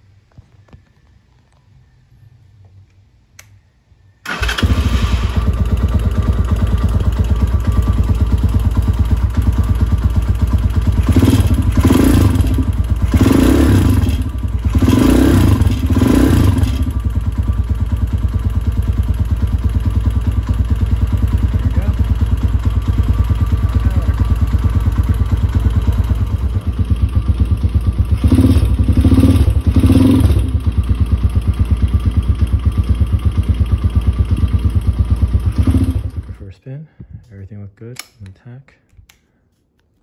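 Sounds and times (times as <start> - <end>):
dirt bike engine starting and idling: 4.2 - 36.5
engine revving: 4.3 - 36.4.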